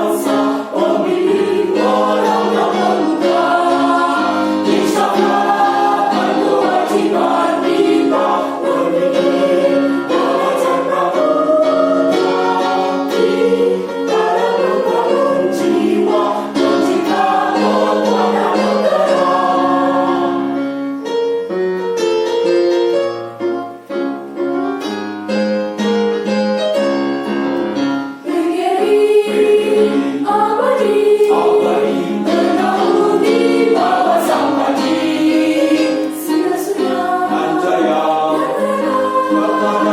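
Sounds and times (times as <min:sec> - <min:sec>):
choir singing in parts: 0:00.0 - 0:21.1, 0:27.2 - 0:39.9.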